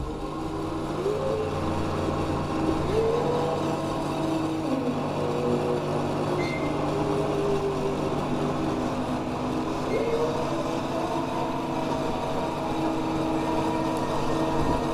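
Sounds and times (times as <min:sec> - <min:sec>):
low pump drive hum: 0:00.0 - 0:14.9
pumpjack beam squeaking: 0:00.0 - 0:14.9.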